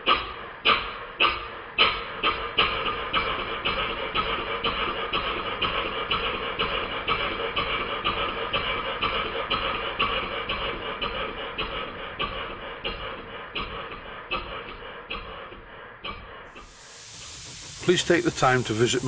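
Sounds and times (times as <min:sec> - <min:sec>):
model steam engine exhaust puffing: 0:00.0 - 0:19.0.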